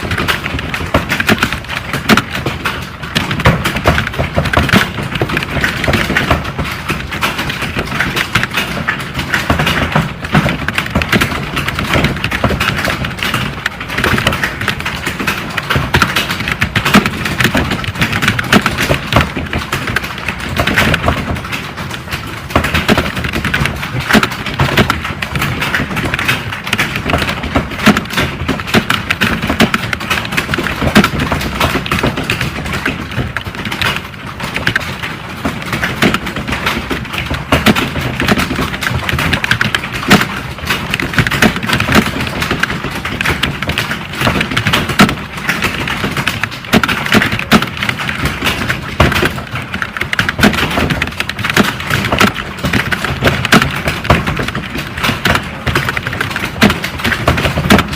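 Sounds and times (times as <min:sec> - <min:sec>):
computer keyboard typing: 0:00.0 - 0:57.9.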